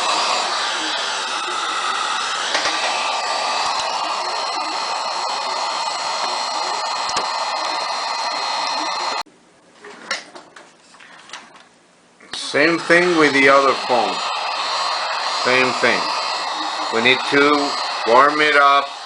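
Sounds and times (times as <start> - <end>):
heat gun blowing: 0.0 - 9.2, 12.3 - 19.0.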